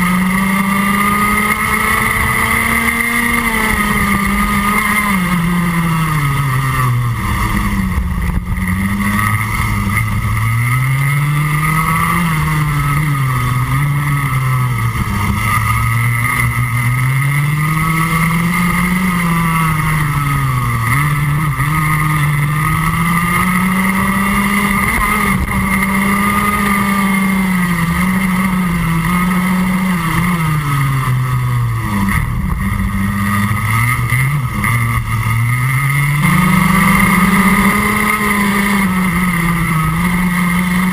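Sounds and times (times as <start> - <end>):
kart engine at racing speed: 0.0 - 40.9.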